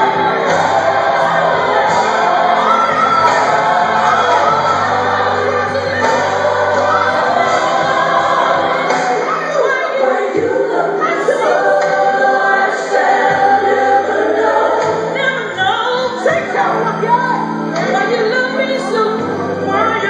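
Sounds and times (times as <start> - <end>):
gospel choir with instrumental backing: 0.0 - 20.0.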